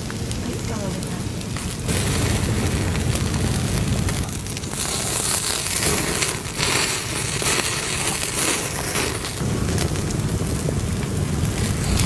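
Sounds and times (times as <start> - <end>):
steady hiss and low rumble: 0.0 - 12.0
wood fire crackling and popping: 0.0 - 12.0.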